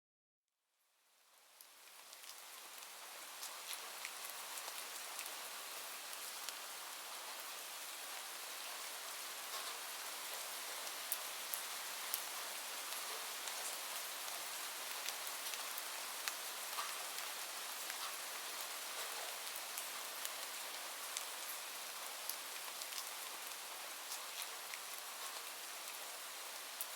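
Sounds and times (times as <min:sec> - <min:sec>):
steady rain: 0:01.0 - 0:26.9.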